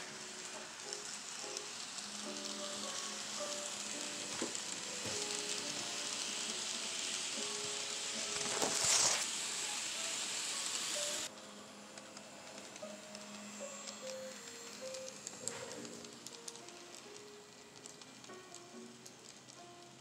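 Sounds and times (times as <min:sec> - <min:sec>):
model trains running past: 0:00.0 - 0:20.0.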